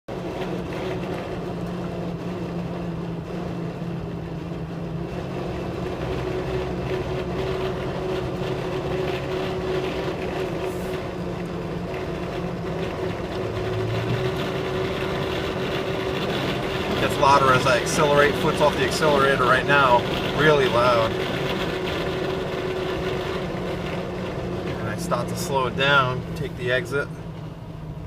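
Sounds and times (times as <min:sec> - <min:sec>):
truck road noise from inside cab: 0:00.1 - 0:28.0.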